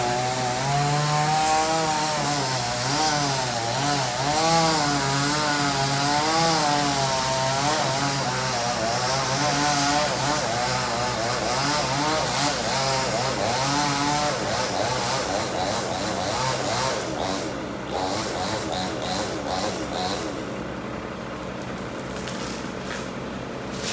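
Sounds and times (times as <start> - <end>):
chainsaw engine revving: 0.0 - 20.7.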